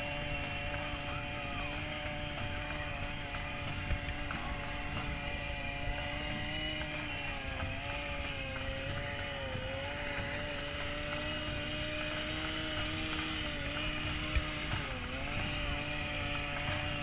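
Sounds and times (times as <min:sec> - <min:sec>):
small two-stroke engine running: 0:00.0 - 0:17.0.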